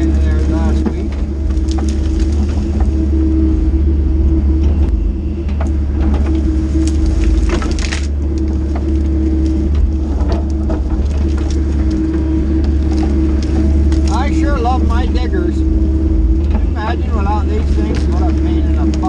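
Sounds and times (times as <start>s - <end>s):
brush and debris crunching: 0.0s - 4.8s, 5.5s - 19.0s
excavator diesel engine: 0.0s - 19.0s.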